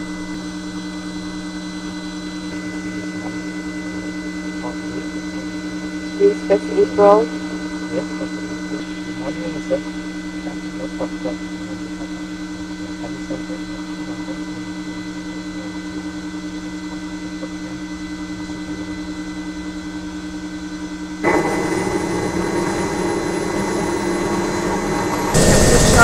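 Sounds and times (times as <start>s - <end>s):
helicopter engines whining: 0.0s - 26.0s.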